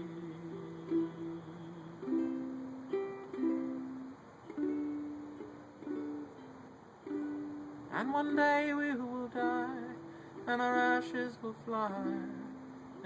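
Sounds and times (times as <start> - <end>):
ukulele strumming chords: 0.0 - 13.0.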